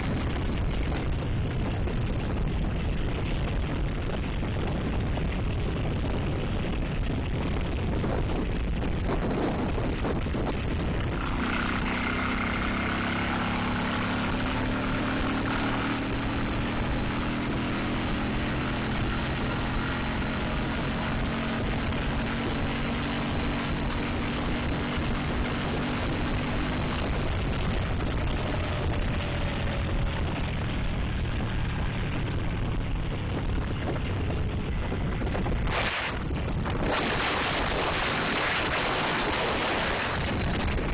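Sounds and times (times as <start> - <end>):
car engine hum: 0.0 - 40.9
road noise: 0.0 - 40.9
wind rush: 0.0 - 40.9.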